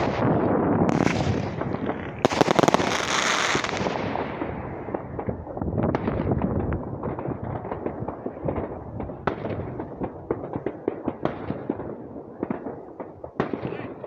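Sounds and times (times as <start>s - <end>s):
rumble of distant firework bangs: 0.0s - 14.0s.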